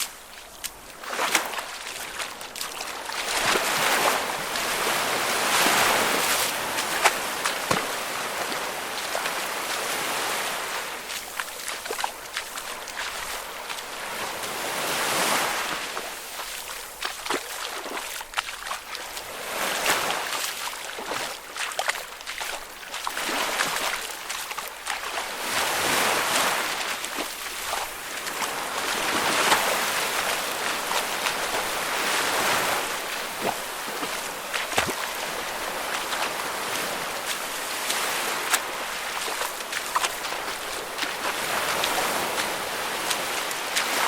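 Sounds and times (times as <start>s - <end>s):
small splashes and drips: 0.0s - 4.8s, 5.5s - 9.8s, 11.0s - 14.2s, 15.9s - 25.6s, 26.4s - 44.0s
person wading through water: 0.0s - 44.0s.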